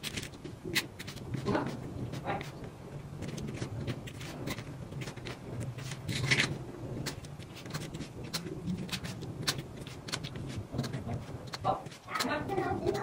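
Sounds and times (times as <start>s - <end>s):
pen tapping rhinestones: 0.0s - 13.0s
plastic film rustling: 0.0s - 13.0s.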